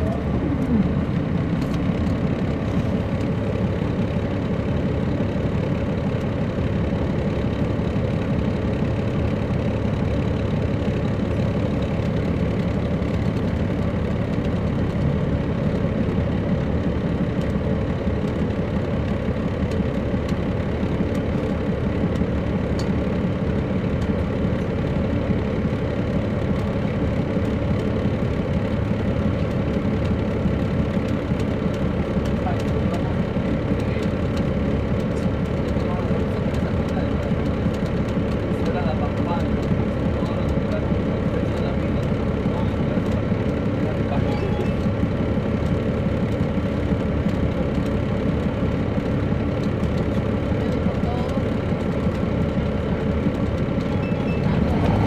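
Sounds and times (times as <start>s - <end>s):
diesel bus engine running: 0.0s - 55.0s.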